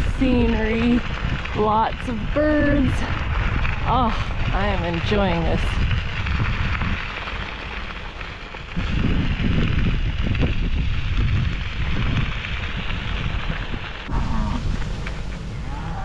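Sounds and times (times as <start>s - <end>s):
bicycle tyres on gravel: 0.0s - 16.0s
wind buffeting microphone: 0.0s - 16.0s.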